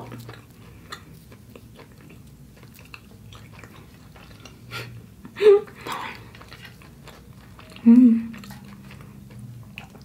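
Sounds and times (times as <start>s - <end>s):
chewing mouth sounds: 0.0s - 10.0s
faint steady hum: 0.0s - 10.0s.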